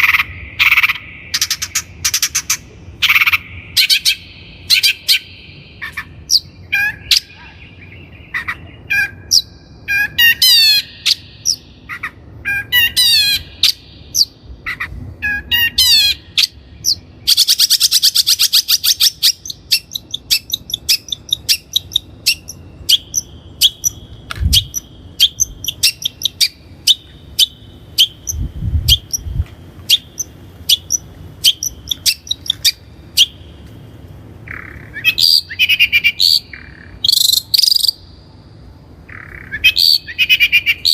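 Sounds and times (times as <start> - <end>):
bird chirping and calling: 0.0 - 33.7, 34.4 - 38.2, 39.0 - 40.9.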